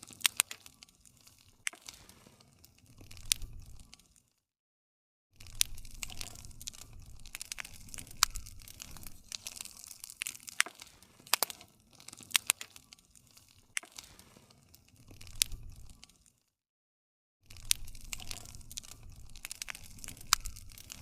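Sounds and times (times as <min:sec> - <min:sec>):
campfire crackling: 0:00.0 - 0:04.3, 0:05.4 - 0:16.4, 0:17.5 - 0:21.0.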